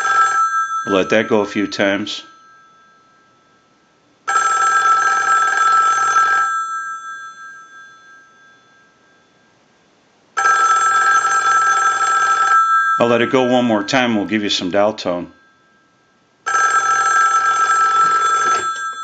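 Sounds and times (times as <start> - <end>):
telephone bell ringing: 0.0 - 1.3, 2.2 - 9.4, 10.4 - 13.9, 15.3 - 19.0.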